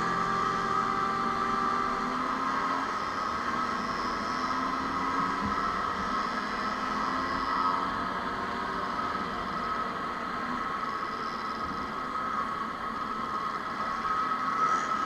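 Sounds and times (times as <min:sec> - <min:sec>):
high-pitched hum: 0:00.0 - 0:15.0
noisy background: 0:00.0 - 0:15.0
two-stroke motorcycle engines droning: 0:00.0 - 0:15.0.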